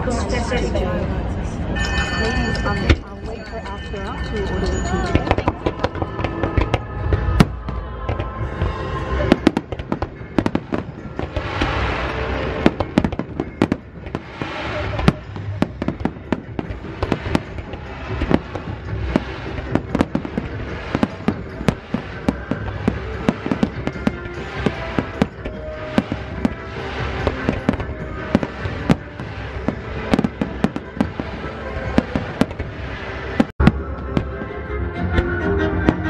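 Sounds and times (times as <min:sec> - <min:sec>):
music playing: 0:00.0 - 0:36.0
fireworks bangs and crackling: 0:01.7 - 0:36.0.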